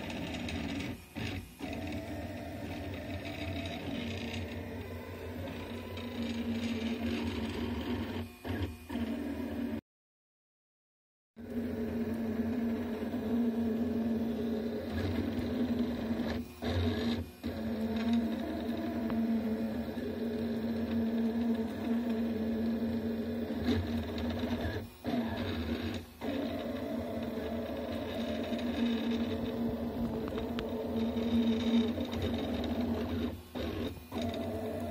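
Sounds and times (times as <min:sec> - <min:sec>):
stepper motors whining: 0:00.0 - 0:09.8, 0:11.4 - 0:34.9.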